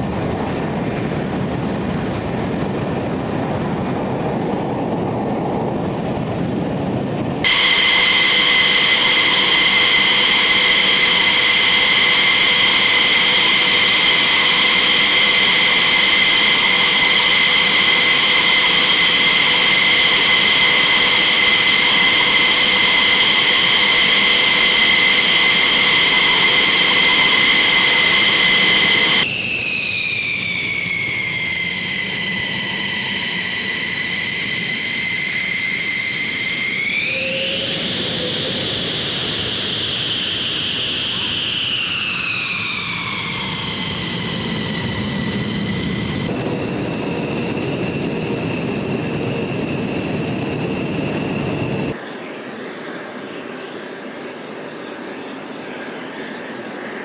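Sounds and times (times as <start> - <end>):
jet engine turbine whine: 0.0 - 57.0.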